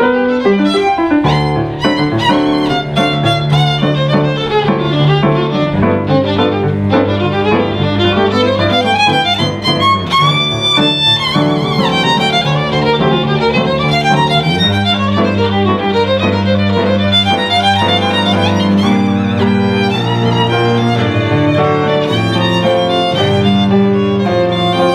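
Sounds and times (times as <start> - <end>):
cello bass notes: 0.0 - 24.9
piano: 0.0 - 24.9
violin melody: 0.0 - 24.9.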